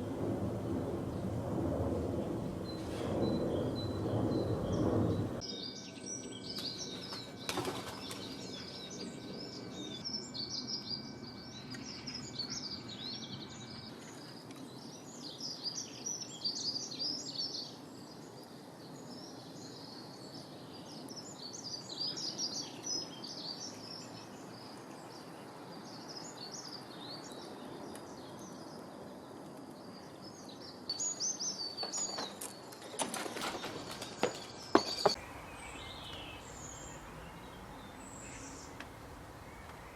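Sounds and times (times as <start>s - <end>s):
small birds chirping: 2.6s - 39.9s.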